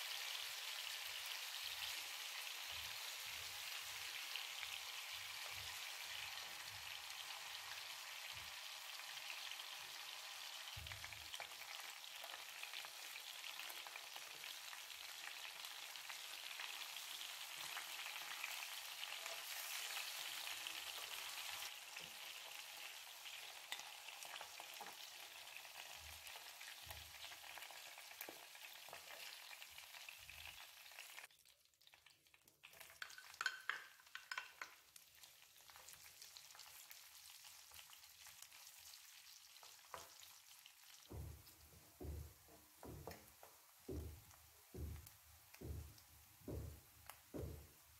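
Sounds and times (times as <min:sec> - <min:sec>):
chicken sizzling in oil: 0:00.0 - 0:47.9.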